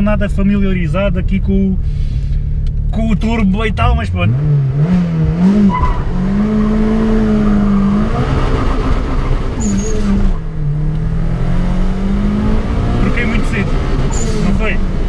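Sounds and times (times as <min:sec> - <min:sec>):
car engine accelerating hard: 0:02.1 - 0:15.0.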